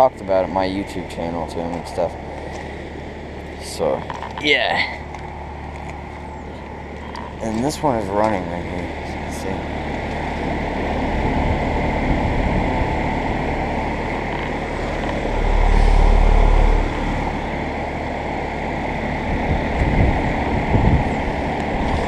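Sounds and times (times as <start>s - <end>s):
air conditioner humming: 0.0s - 22.0s
low rumble: 0.0s - 22.0s.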